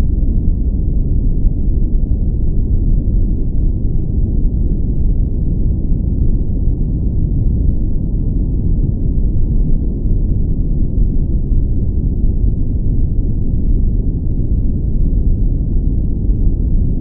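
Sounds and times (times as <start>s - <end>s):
deep rumbling brown noise: 0.0s - 17.0s.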